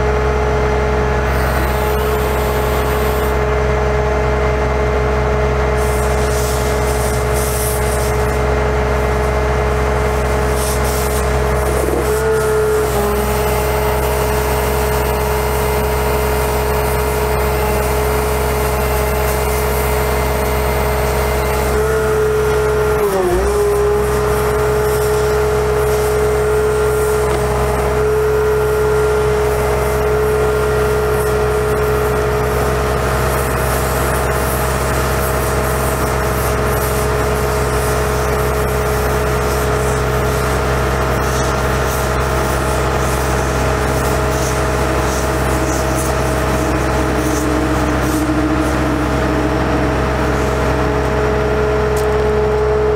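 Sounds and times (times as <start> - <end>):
diesel engine running: 0.0 - 52.9
hydraulic pump whine: 0.0 - 52.9.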